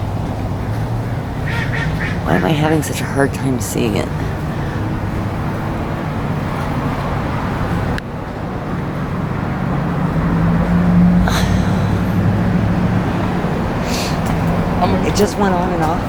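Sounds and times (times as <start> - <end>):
road traffic noise: 0.0 - 16.0
vehicle engine hum: 0.0 - 16.0.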